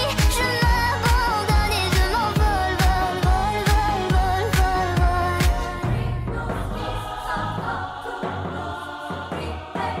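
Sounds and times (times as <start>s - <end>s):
background music with sung voices: 0.0s - 10.0s.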